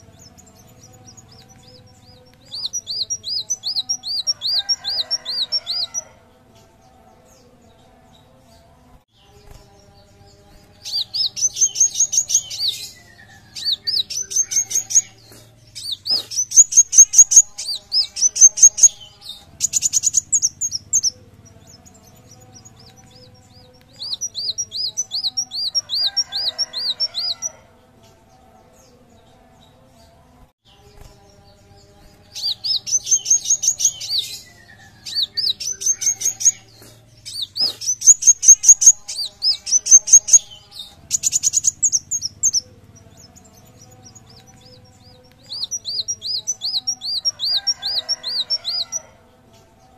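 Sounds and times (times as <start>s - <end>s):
sunbird chirping: 0.0s - 6.1s, 9.2s - 27.4s, 30.8s - 48.9s.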